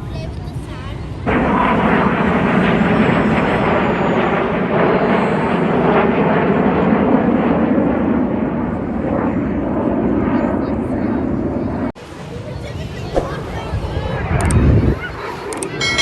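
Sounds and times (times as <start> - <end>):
jet aircraft flying past: 1.0 - 16.0.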